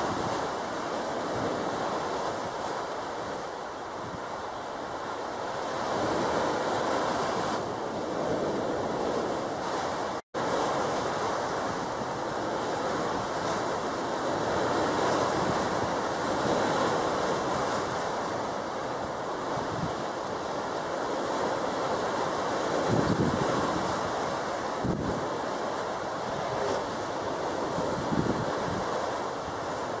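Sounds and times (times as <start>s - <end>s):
sea waves washing: 0.0s - 30.0s
wind buffeting microphone: 5.0s - 18.4s, 19.0s - 30.0s.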